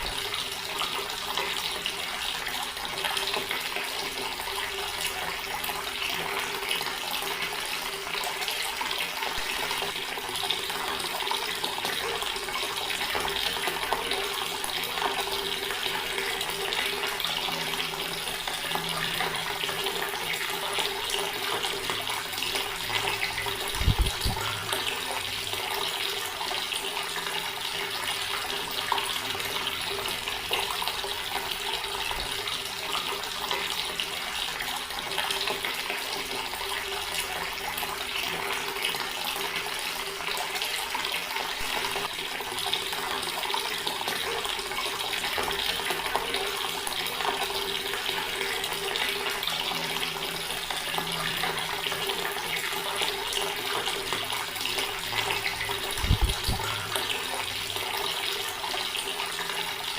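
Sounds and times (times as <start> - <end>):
tap water splashing into basin: 0.0 - 59.9.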